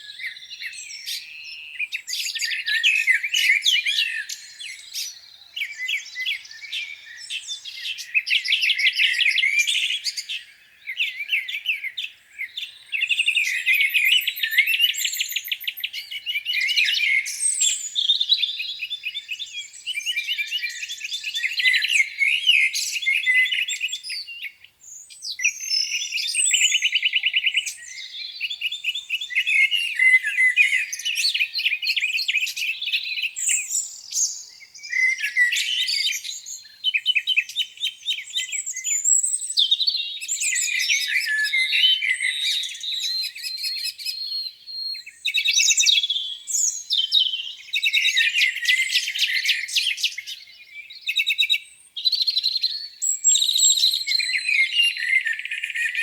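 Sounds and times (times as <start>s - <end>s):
songbirds singing in chorus: 0.0s - 56.0s.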